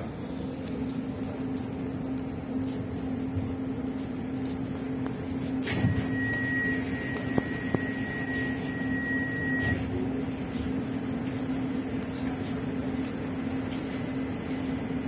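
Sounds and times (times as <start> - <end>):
electric train hum: 0.0 - 15.0
high steady whine: 0.0 - 15.0.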